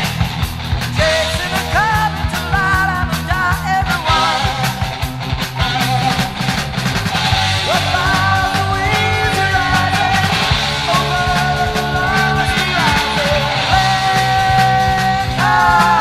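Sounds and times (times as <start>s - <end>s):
heavy metal song: 0.0s - 16.0s.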